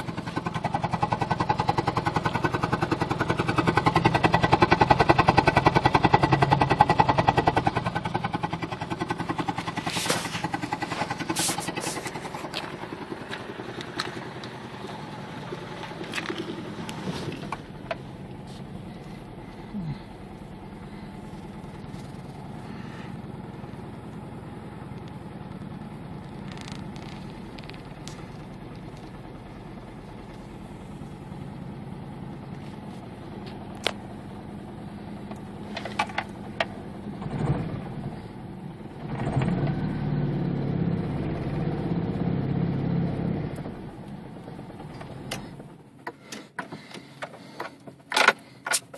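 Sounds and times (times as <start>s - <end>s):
car engine idling roughly: 0.0s - 39.2s, 43.6s - 48.9s.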